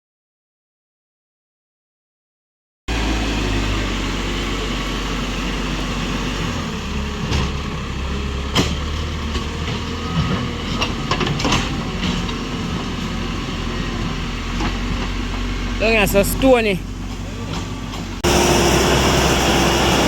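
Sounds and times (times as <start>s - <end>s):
tractor engine running: 2.9s - 20.0s.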